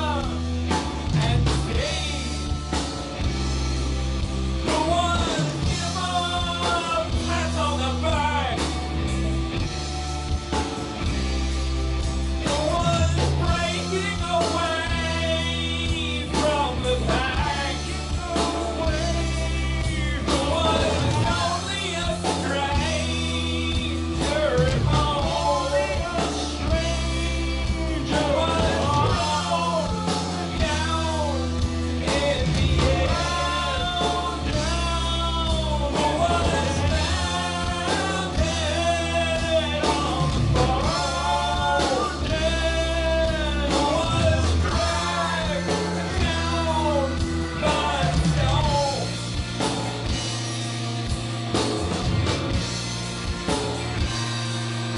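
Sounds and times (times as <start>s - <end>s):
person singing: 0.0s - 2.9s, 4.6s - 8.9s, 12.4s - 49.7s
live rock band playing: 0.0s - 54.9s.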